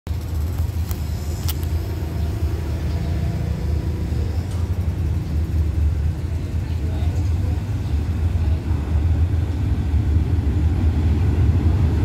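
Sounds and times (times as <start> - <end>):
locomotive engine rumble: 0.1 - 12.0.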